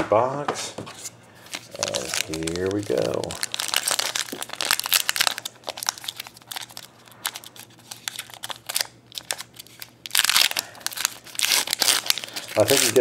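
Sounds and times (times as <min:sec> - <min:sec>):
foil pack crinkling: 0:01.4 - 0:13.0.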